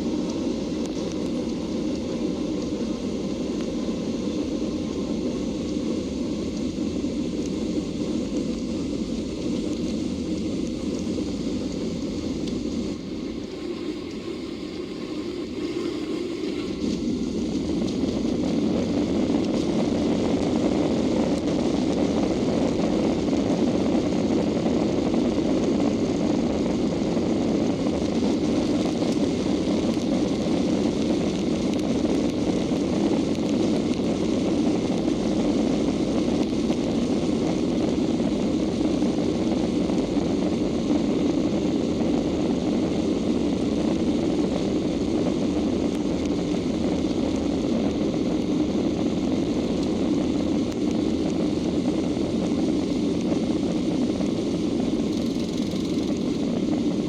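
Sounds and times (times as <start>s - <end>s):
jet engines at takeoff thrust: 0.0s - 57.0s.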